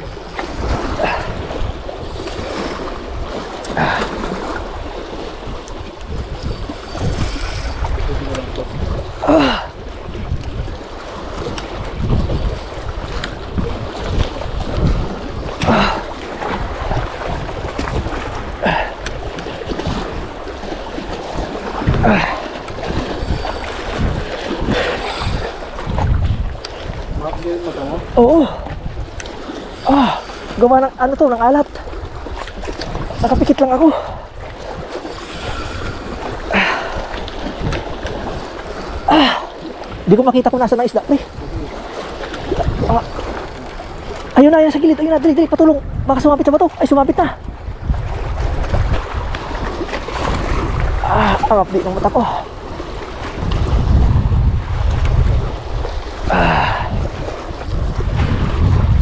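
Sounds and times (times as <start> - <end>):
waves washing against rocks: 0.0 - 59.0
wind buffeting microphone: 0.0 - 59.0.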